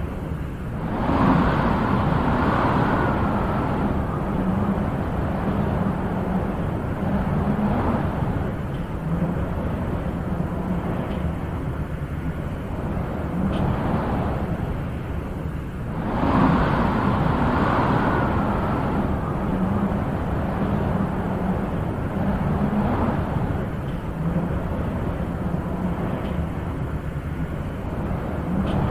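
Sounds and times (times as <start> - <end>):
wind blowing in gusts: 0.0 - 28.9.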